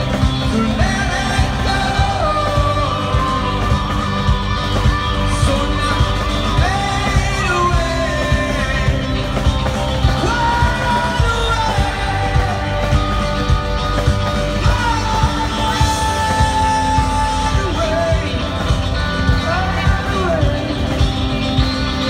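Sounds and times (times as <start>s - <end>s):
man singing: 0.0s - 4.3s, 5.2s - 13.5s, 14.5s - 22.0s
drum beat: 0.0s - 22.0s
electric guitar: 0.0s - 22.0s.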